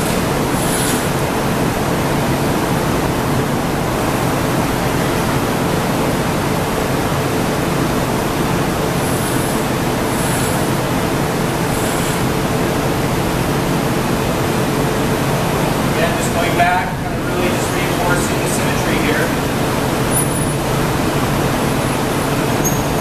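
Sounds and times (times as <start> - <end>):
gas furnace rushing: 0.0 - 23.0.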